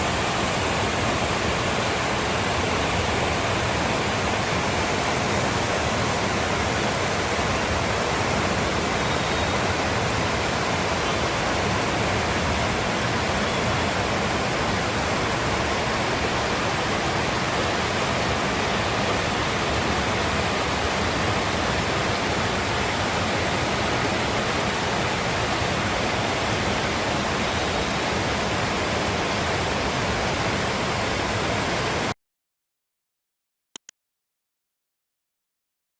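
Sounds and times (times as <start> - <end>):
heavy rain: 0.0 - 32.2.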